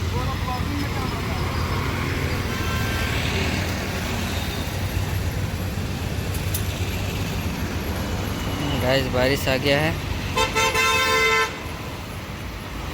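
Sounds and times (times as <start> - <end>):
street traffic: 0.0 - 12.9.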